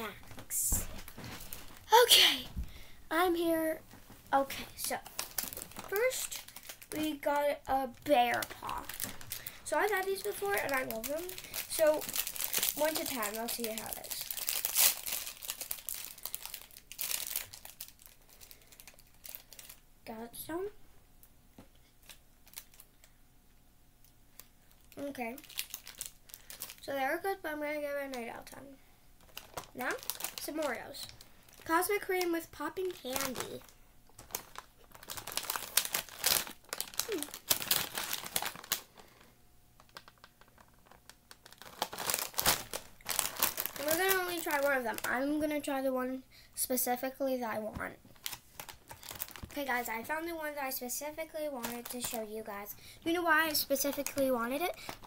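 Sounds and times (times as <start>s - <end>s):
plastic wrapper crinkling: 0.0s - 19.9s, 22.0s - 23.1s, 24.3s - 28.6s, 29.2s - 45.8s, 48.1s - 55.0s.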